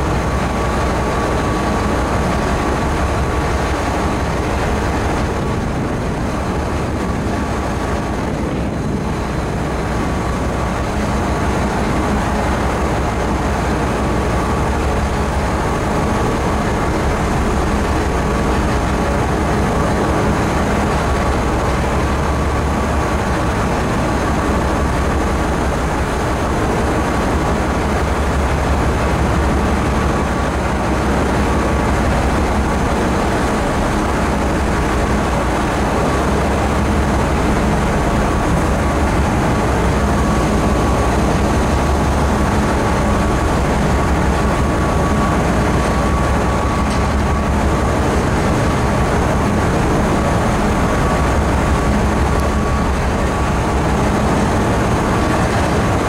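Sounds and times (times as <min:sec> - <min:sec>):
faint steady whine: 0:00.0 - 0:56.0
ferry engines droning: 0:00.0 - 0:56.0
rushing water noise: 0:00.0 - 0:56.0.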